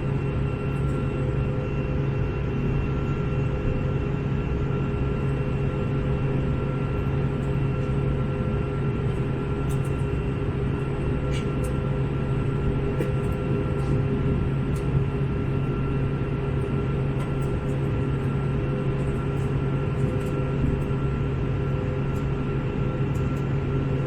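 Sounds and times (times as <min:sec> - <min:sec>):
airplane cabin engine noise: 0:00.0 - 0:24.0.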